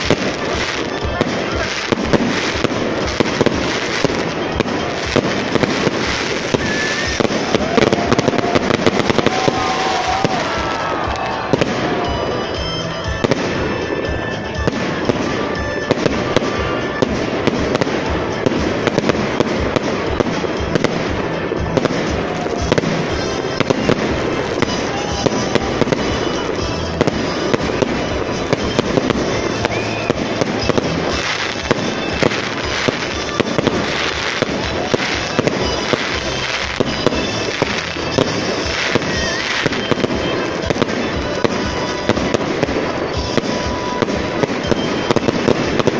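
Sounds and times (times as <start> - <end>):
fireworks bangs: 0.0 - 45.9
fireworks crackle: 0.0 - 45.9.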